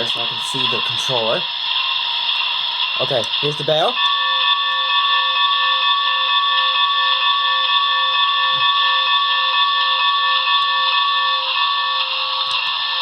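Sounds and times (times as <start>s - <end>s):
model locomotive bell ringing: 0.0s - 13.0s.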